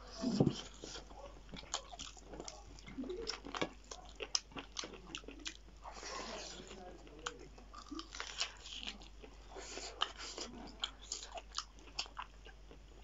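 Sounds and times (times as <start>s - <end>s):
crunchy biting and chewing: 0.1s - 13.0s.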